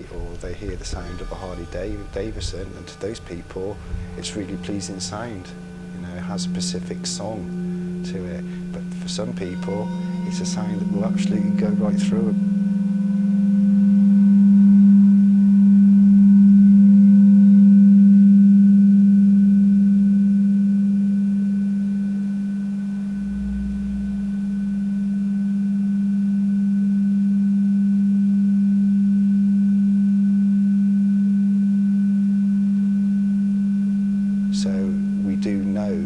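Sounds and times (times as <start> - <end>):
singing bowl ringing: 0.0 - 36.0.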